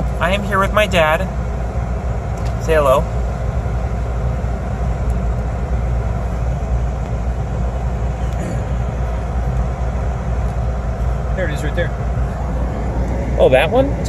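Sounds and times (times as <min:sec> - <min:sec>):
car engine rumbling inside cabin: 0:00.0 - 0:14.0.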